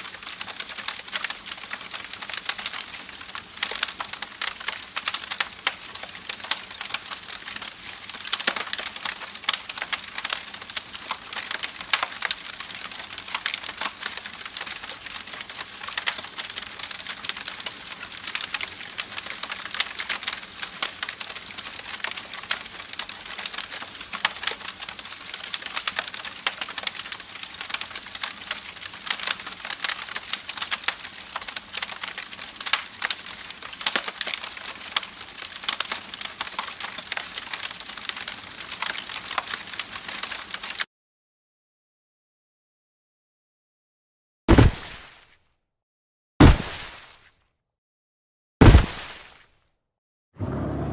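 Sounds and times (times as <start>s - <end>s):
campfire crackling and popping: 0.0s - 40.9s, 44.5s - 45.2s, 48.6s - 49.4s.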